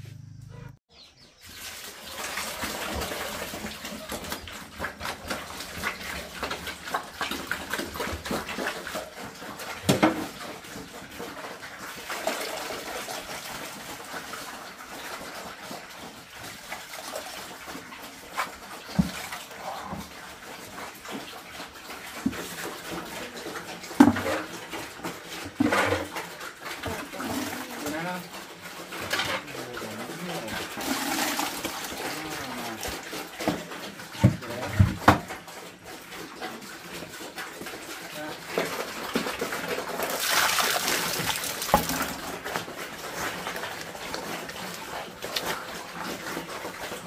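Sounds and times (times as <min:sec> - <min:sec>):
pigs eating wet slop: 0:01.2 - 0:47.0.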